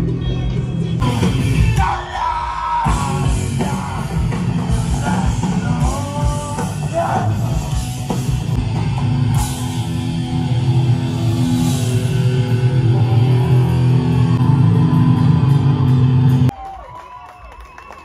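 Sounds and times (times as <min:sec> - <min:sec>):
bass guitar: 0:00.0 - 0:16.5
electric guitar chords: 0:00.0 - 0:16.5.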